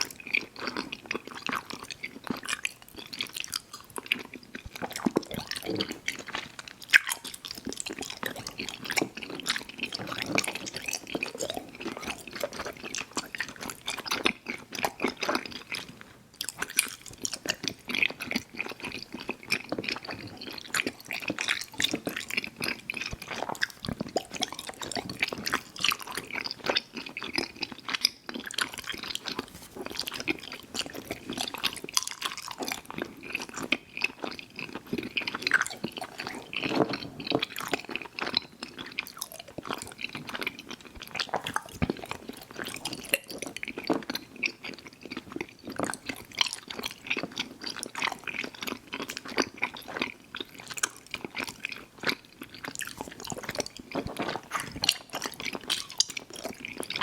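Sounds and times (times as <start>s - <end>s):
mouth chewing candy: 0.0s - 57.0s.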